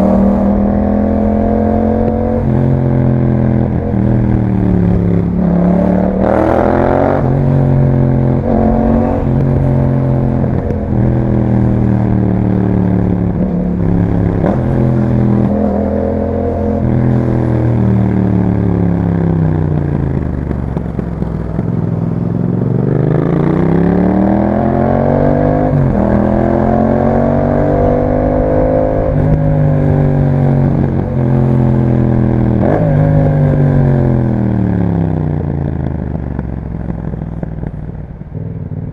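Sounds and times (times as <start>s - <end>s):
motorcycle accelerating through gears: 0.0s - 38.9s.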